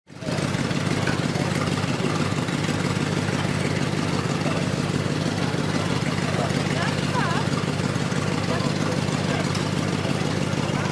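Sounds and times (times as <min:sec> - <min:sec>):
car engine idling: 0:00.1 - 0:10.9.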